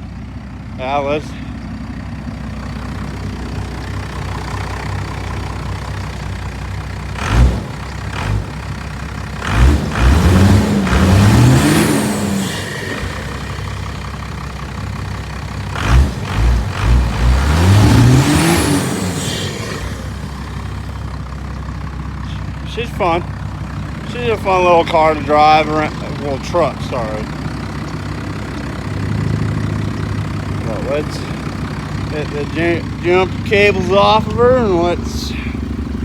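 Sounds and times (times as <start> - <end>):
engine idling and revving: 0.0 - 36.0.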